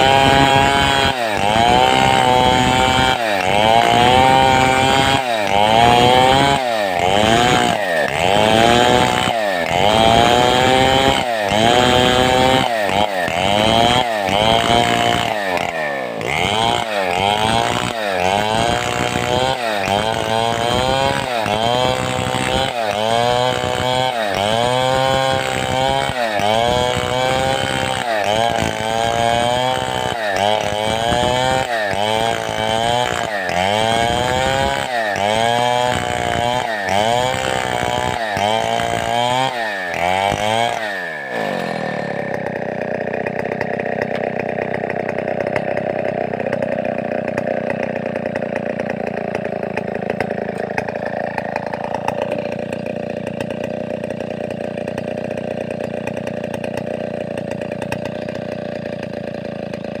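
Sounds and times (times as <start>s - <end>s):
chainsaw engine revving: 0.0s - 60.0s.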